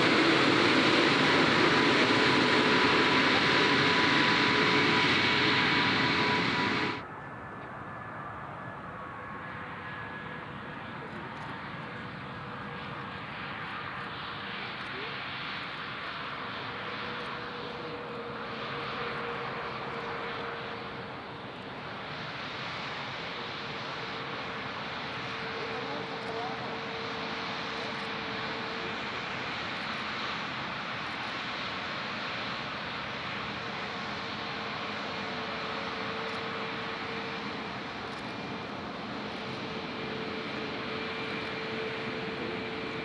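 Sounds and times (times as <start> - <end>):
distant jet engine hum: 0.0 - 43.0
jet engines taxiing with whine: 0.0 - 43.0.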